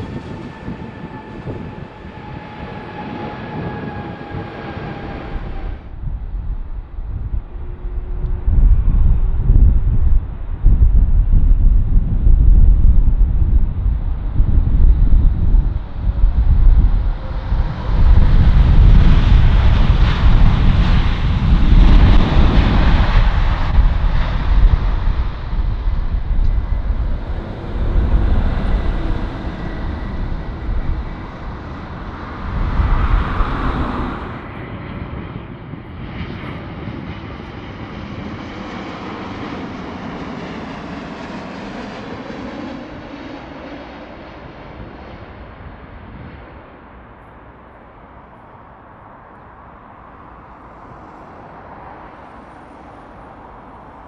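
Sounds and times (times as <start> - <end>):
jet engine on approach: 0.0 - 54.0
jet engines rumbling on landing: 0.0 - 54.0.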